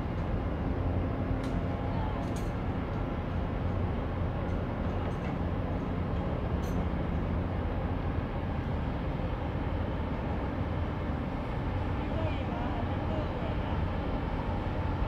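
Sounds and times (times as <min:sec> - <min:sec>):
ship diesel engine drone: 0:00.0 - 0:15.0.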